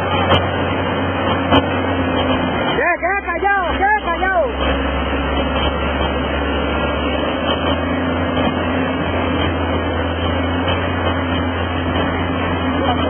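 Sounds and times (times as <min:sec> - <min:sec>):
low engine hum: 0:00.0 - 0:13.0
river rapids rushing: 0:00.0 - 0:13.0.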